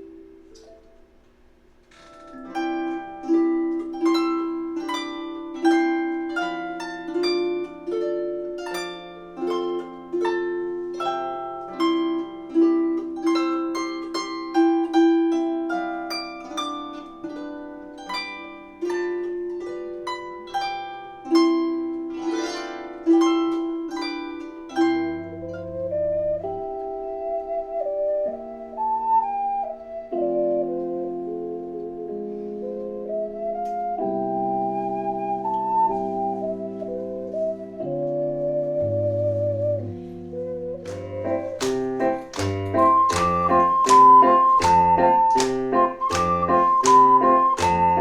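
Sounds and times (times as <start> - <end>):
harp-like plucked melody: 0.0 - 1.2, 1.9 - 48.0.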